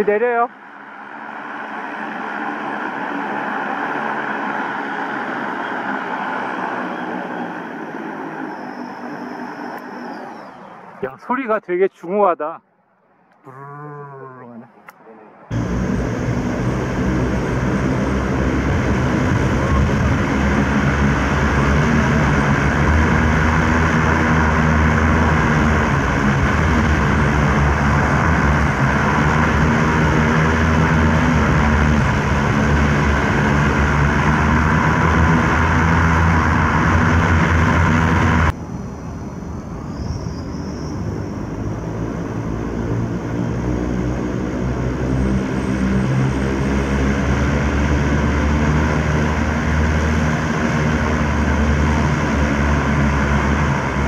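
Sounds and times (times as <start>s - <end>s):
drone propellers buzzing hum: 0.0s - 11.1s, 12.8s - 54.0s.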